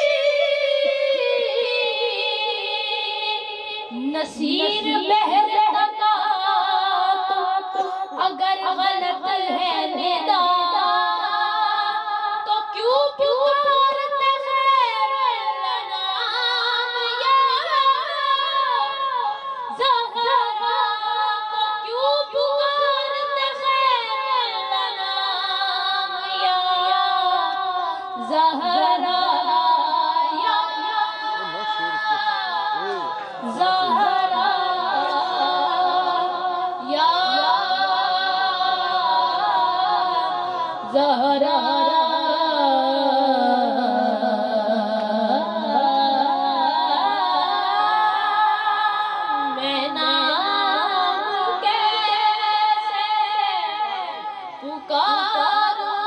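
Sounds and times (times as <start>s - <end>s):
boy singing devotional chant: 0.0s - 56.0s.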